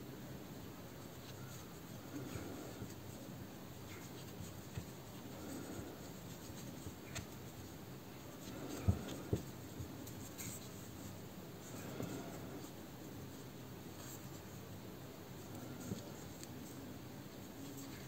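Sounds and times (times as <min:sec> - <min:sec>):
crochet hook rustling yarn: 0:00.9 - 0:18.0.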